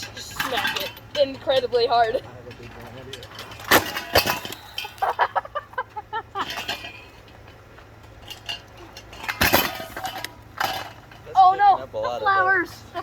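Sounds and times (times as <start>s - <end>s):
clattering knocks of fan parts: 0.0s - 12.1s.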